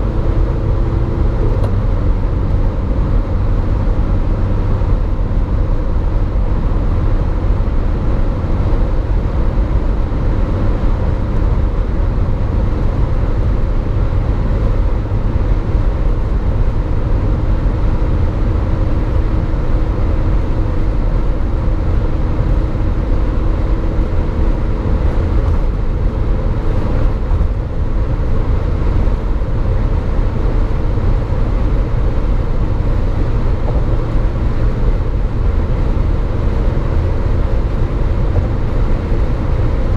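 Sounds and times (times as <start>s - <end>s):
road and wind rumble: 0.0s - 39.9s
van engine drone at high speed: 0.0s - 39.9s.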